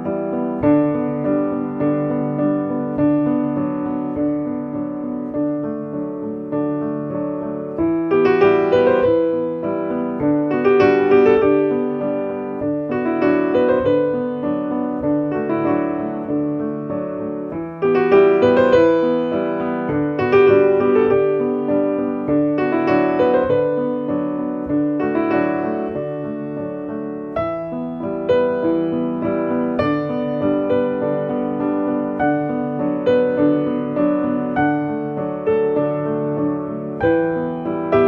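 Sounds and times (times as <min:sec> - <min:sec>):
soft piano music: 0:00.0 - 0:38.0.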